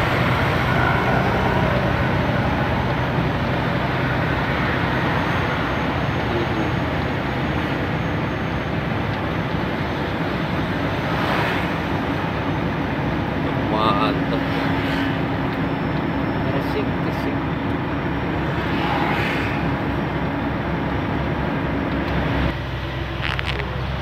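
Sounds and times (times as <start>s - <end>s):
vehicle road and wind noise: 0.0s - 24.0s.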